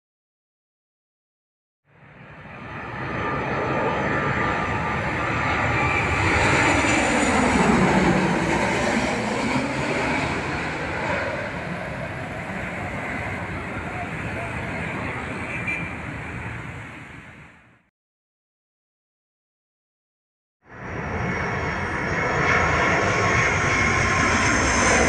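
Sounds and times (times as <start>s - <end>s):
jet airliner engine roar: 1.9s - 17.9s, 20.6s - 25.0s.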